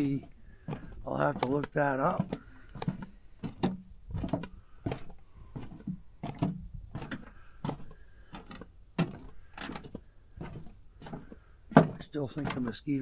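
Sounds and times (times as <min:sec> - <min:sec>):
footsteps on wooden boardwalk: 0:00.0 - 0:12.9.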